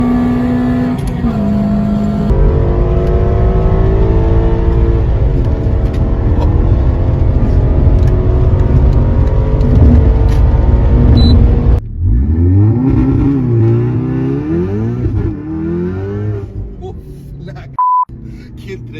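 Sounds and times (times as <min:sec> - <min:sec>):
engine revving: 0:00.0 - 0:16.6
car engine accelerating: 0:00.0 - 0:18.9.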